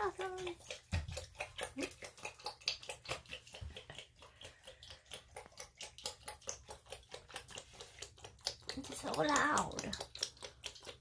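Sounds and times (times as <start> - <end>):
animal lapping water from bowl: 0.0 - 11.0.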